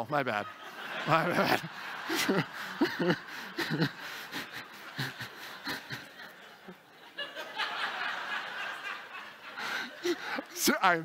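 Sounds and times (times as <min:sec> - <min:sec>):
audience laughing: 0:00.2 - 0:10.8.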